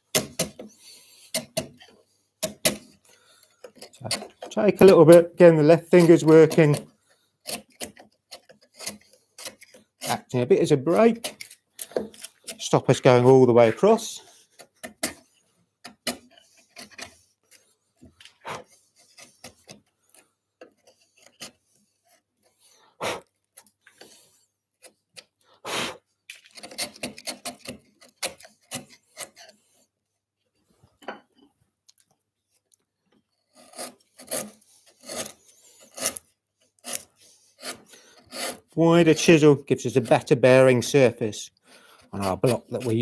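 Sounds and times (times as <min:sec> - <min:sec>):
chisel scraping through wood: 0:00.1 - 0:29.9, 0:33.2 - 0:41.1, 0:41.8 - 0:43.0.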